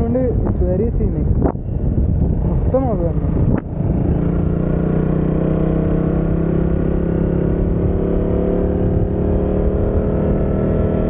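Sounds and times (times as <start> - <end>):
wind rumble on microphone: 0.0 - 11.0
motorcycle engine running: 1.4 - 11.0.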